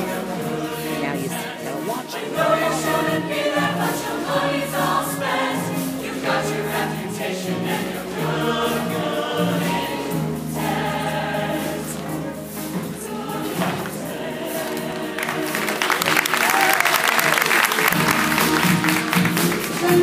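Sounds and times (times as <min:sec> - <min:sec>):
choir singing in parts: 0:00.0 - 0:20.0.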